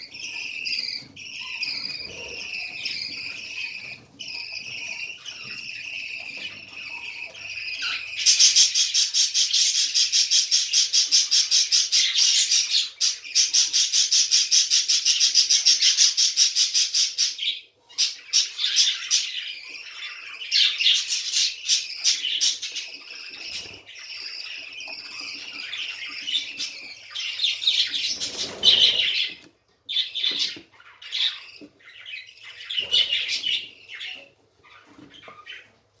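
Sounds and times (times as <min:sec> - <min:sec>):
budgerigars chattering and squawking: 0:00.0 - 0:36.0.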